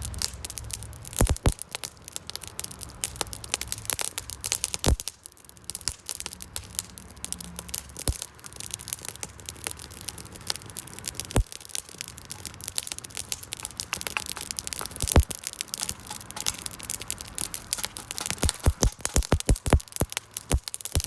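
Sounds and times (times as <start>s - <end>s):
campfire crackling: 0.0s - 21.0s
loud fire pops: 0.0s - 21.0s.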